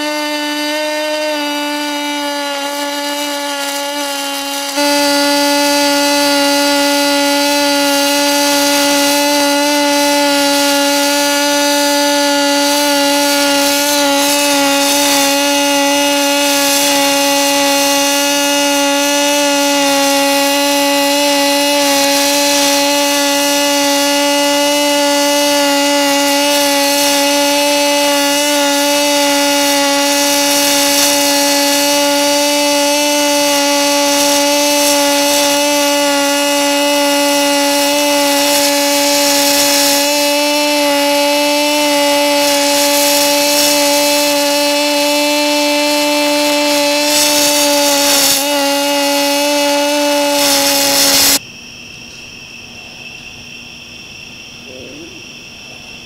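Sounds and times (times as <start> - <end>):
welding arc buzzing: 0.0 - 51.4
crackling hiss: 0.0 - 56.0.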